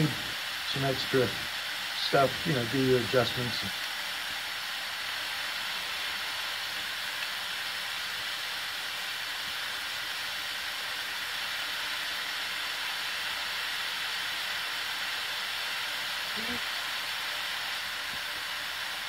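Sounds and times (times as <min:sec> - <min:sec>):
spray nozzle hissing: 0:00.0 - 0:19.0.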